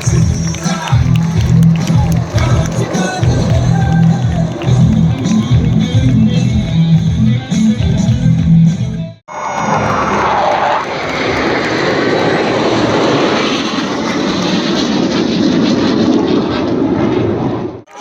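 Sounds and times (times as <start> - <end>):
aircraft engines flying overhead: 0.0 - 8.0, 9.2 - 18.0.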